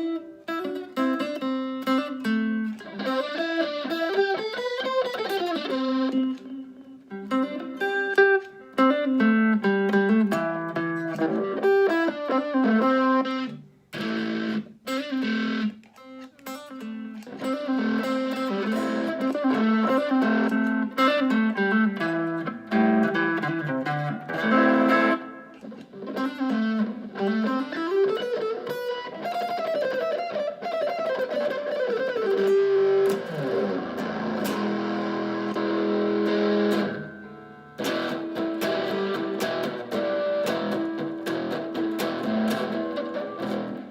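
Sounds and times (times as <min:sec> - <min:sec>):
electric guitar melody: 0:00.0 - 0:43.9.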